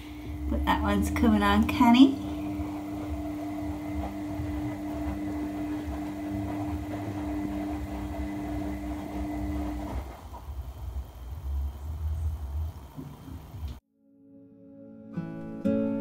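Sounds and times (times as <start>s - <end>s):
appliance humming: 0.0s - 13.8s.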